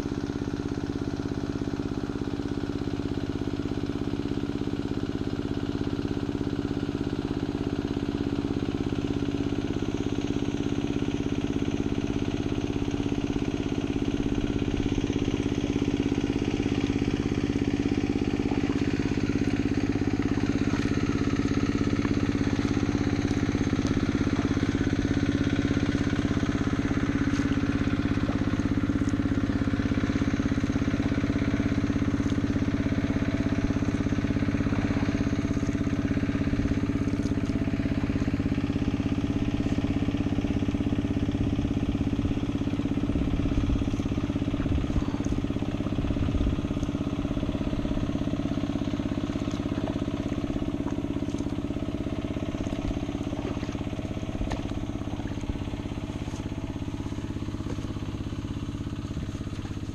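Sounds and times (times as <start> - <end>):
water pump engine running: 0.0 - 59.9.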